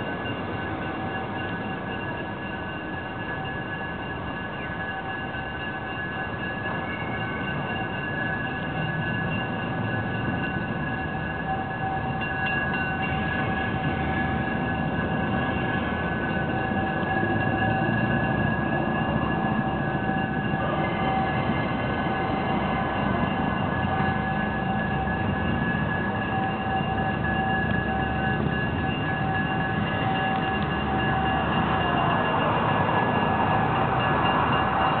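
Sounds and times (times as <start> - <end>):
diesel railcar engine whine: 0.0 - 35.0
high ringing tones: 0.0 - 35.0.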